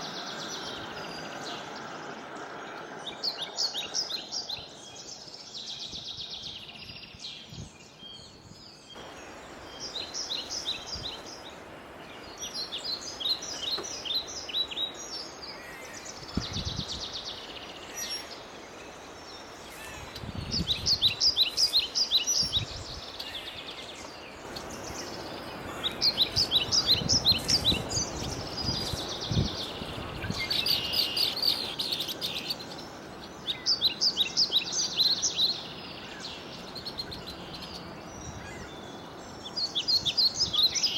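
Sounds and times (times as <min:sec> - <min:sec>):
songbird singing: 0:00.0 - 0:40.9
steady outdoor hiss: 0:00.0 - 0:40.9.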